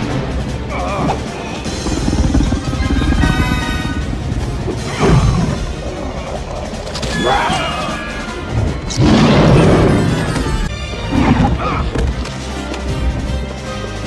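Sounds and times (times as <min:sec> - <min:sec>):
dramatic orchestral music: 0:00.0 - 0:14.0.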